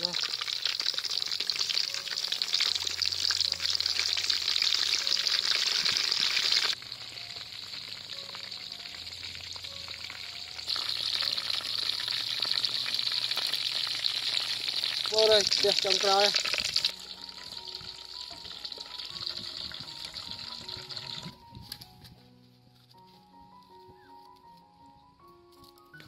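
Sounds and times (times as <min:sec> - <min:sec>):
fruit deep-frying in oil: 0:00.0 - 0:21.4.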